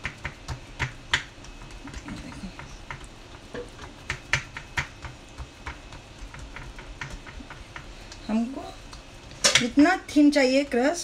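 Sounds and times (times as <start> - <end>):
fingertips patting dough in pan: 0.0 - 11.0.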